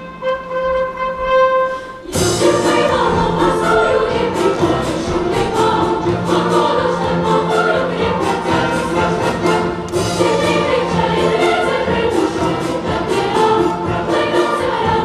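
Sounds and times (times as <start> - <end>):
children's choir and orchestra: 0.0 - 15.0.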